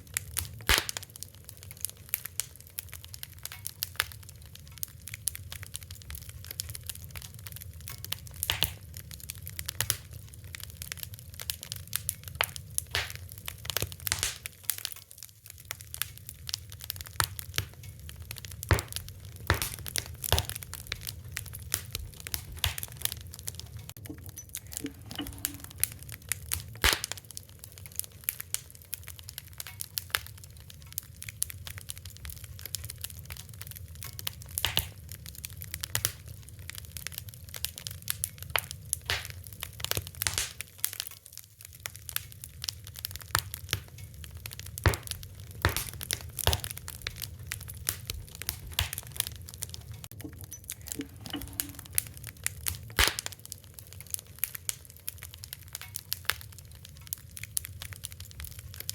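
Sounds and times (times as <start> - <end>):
fire crackling: 0.0 - 58.9.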